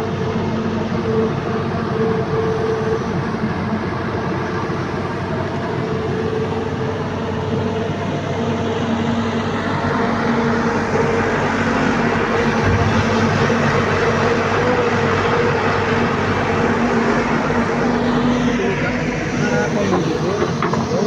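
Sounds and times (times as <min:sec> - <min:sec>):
droning hum: 0:00.0 - 0:21.0
heavy diesel machinery running: 0:00.0 - 0:21.0.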